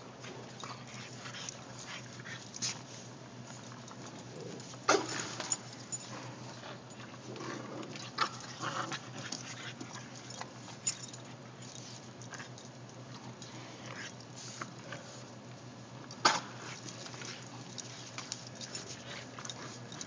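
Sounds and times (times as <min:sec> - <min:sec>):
dogs playing: 0:00.0 - 0:20.0.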